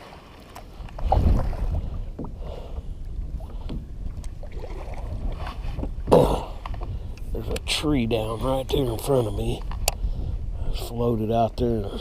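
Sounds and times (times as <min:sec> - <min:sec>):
water swishes: 0:00.0 - 0:12.0.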